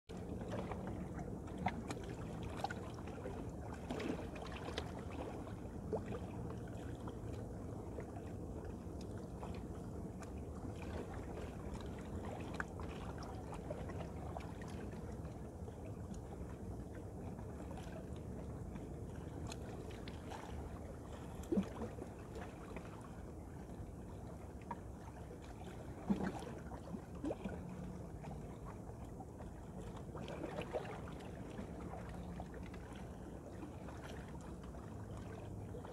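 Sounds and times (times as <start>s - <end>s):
river water lapping and sloshing: 0.1s - 35.9s
steady low rumble: 0.1s - 35.9s.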